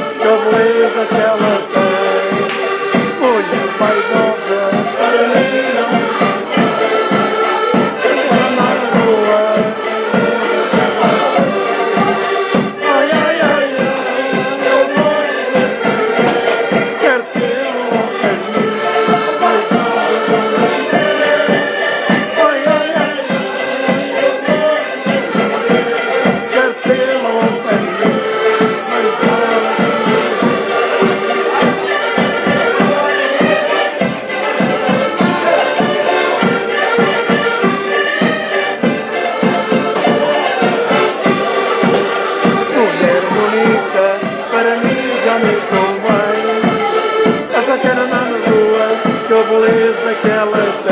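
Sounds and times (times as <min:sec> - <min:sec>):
accordions playing folk music: 0:00.0 - 0:50.9
bass drum beat: 0:00.0 - 0:50.9
people singing: 0:00.0 - 0:50.9.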